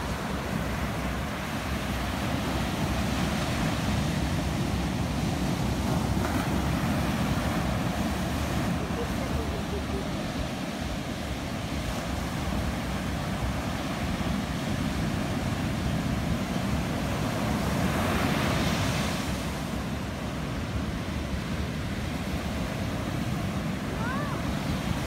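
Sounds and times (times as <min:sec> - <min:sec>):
surf waves breaking on sand: 0:00.0 - 0:25.0.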